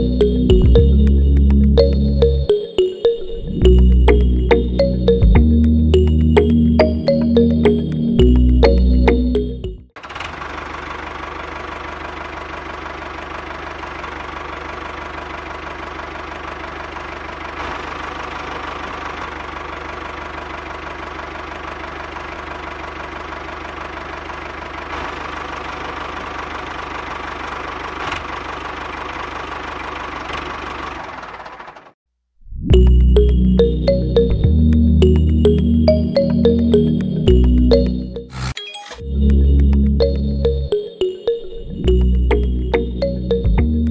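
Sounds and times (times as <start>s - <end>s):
engine running with knocking beat: 0.0s - 2.5s, 3.6s - 31.9s, 32.8s - 38.0s, 41.8s - 43.9s.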